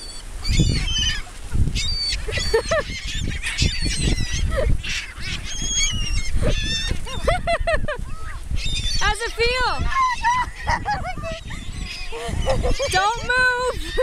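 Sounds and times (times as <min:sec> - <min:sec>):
seagulls squawking: 0:00.0 - 0:14.0.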